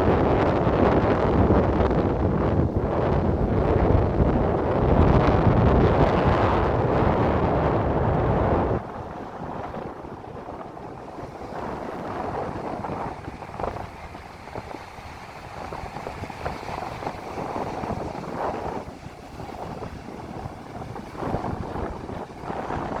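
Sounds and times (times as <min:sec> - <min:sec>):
gusting wind: 0:00.0 - 0:23.0
surf: 0:00.0 - 0:23.0
wind buffeting microphone: 0:00.0 - 0:23.0.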